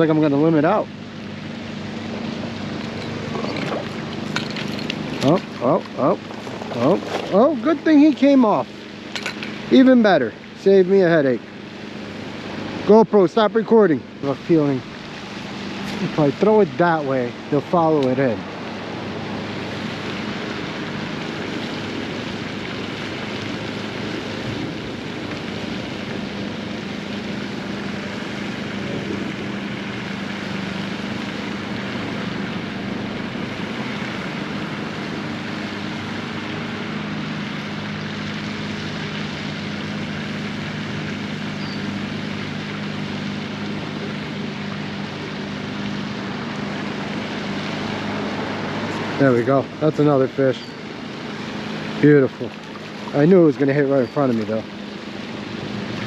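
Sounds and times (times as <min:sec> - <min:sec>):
constant rushing noise: 0:00.0 - 0:56.0
low engine drone: 0:00.0 - 0:56.0.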